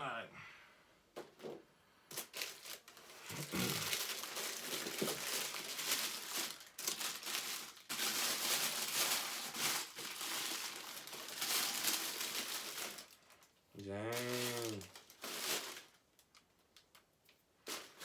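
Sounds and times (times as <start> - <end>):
packaging crinkling: 2.1 - 18.0.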